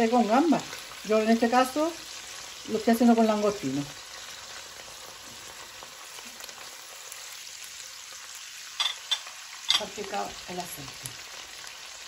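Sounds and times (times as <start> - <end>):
prawns sizzling in a pan: 0.0 - 12.0.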